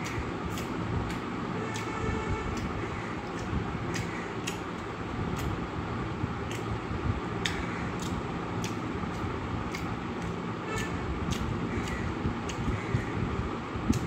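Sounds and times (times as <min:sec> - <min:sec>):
man chewing clicks: 0:00.0 - 0:05.6, 0:06.4 - 0:13.2
steady background hum: 0:00.0 - 0:14.0.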